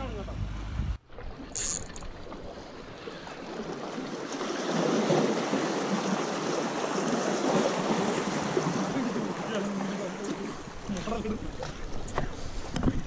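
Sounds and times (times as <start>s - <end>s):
water splashing against boat hull: 1.0s - 13.0s.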